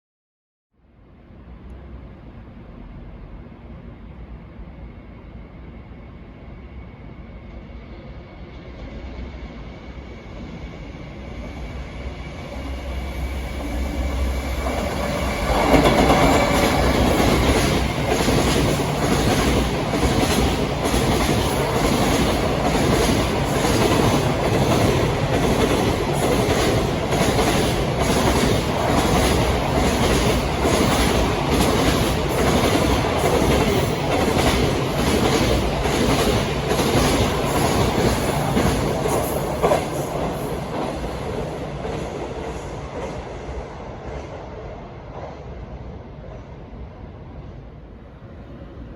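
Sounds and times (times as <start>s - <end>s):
freight train rumble: 1.0s - 48.9s.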